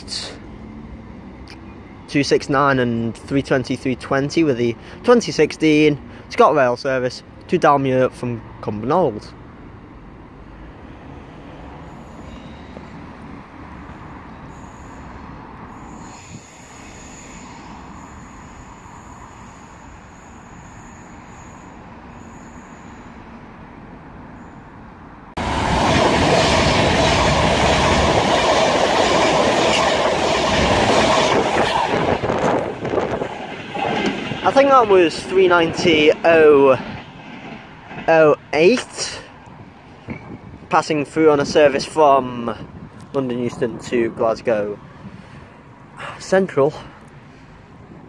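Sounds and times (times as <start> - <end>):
electric train passing at speed: 0.0 - 7.5, 9.3 - 46.0, 46.8 - 48.0.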